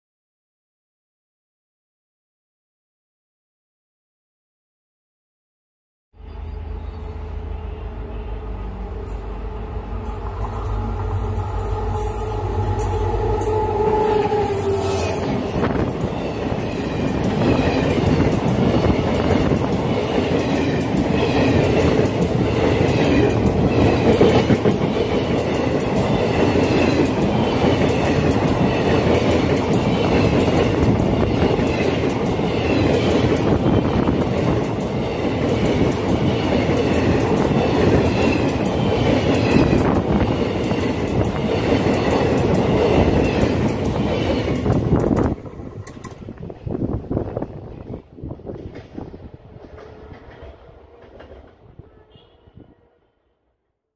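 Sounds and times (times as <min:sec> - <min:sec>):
train passing at speed: 0:06.2 - 0:53.6.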